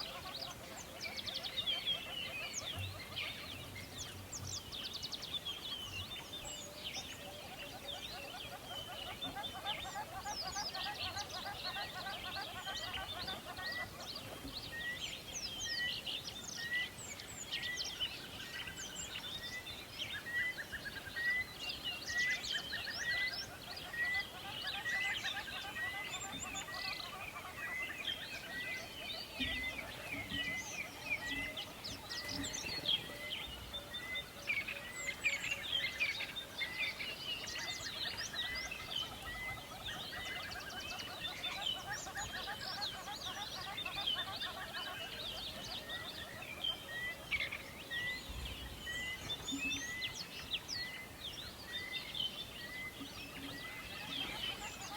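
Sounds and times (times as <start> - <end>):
wild birds chirping and trilling: 0.0 - 54.9.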